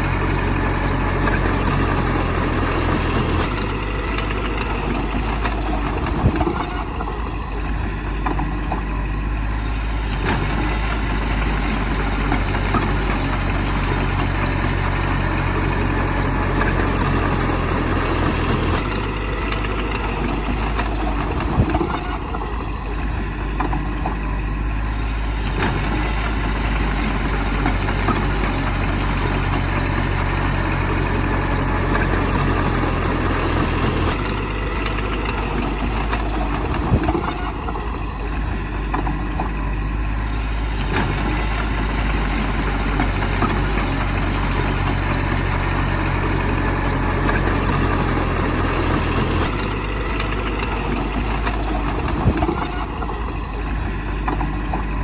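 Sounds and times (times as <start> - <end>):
diesel machinery engine drone: 0.0 - 55.0.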